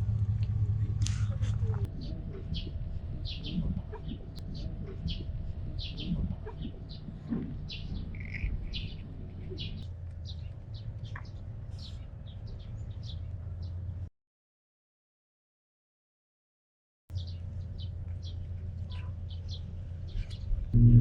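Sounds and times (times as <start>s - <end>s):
steady low hum: 0.0s - 14.1s, 17.1s - 21.0s
small birds chirping: 0.4s - 14.1s, 17.1s - 21.0s.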